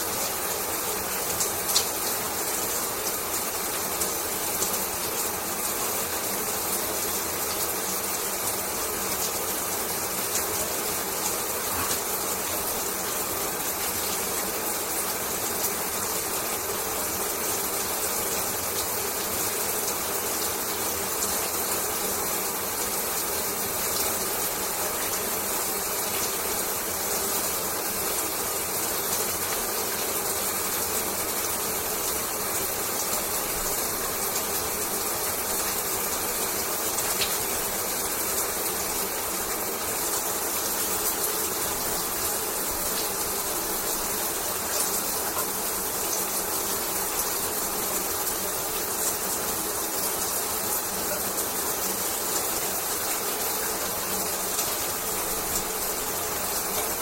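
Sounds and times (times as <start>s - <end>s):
shower water running: 0.0s - 57.0s.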